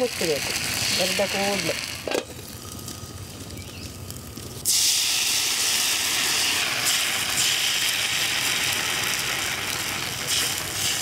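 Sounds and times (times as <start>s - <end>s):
batter sizzling on hot pan: 0.0s - 11.0s.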